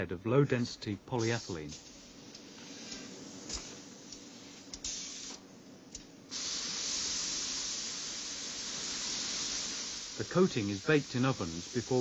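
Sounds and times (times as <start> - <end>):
air hissing through powder: 1.1 - 5.6, 6.2 - 12.0.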